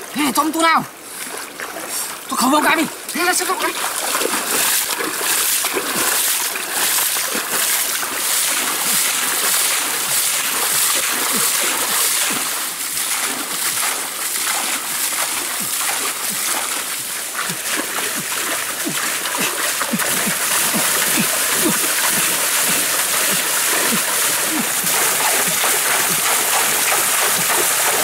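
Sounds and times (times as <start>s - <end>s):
muddy water splashing: 0.0s - 28.0s.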